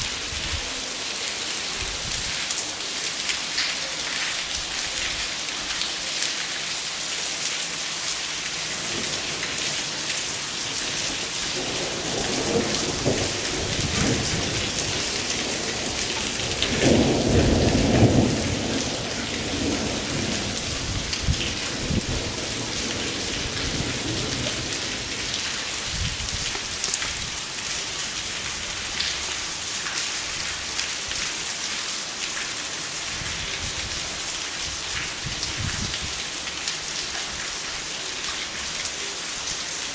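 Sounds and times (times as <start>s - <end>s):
heavy rain on surfaces: 0.0s - 39.9s.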